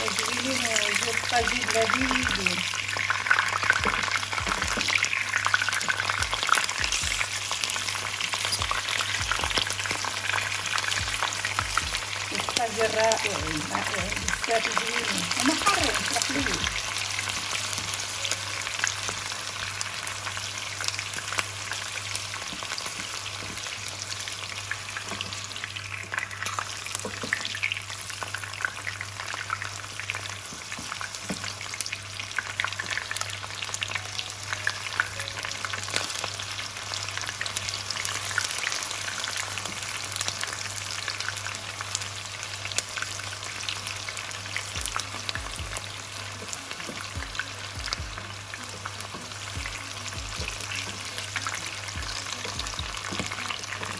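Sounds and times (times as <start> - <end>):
peppers sizzling in hot oil: 0.0 - 53.9.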